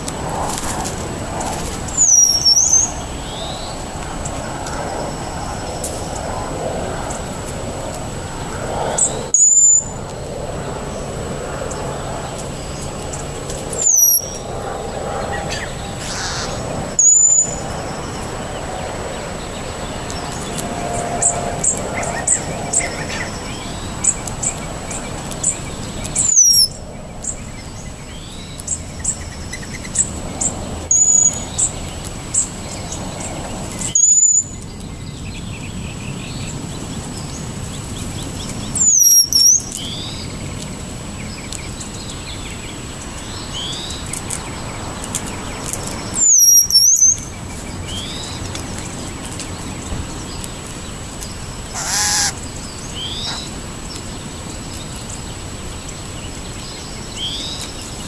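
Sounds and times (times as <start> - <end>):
songbirds calling: 0.0 - 58.0.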